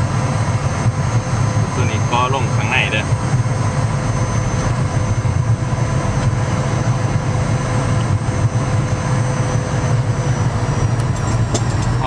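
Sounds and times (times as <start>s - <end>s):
faint high whine: 0.0s - 12.0s
jet cabin engine drone: 0.0s - 12.0s.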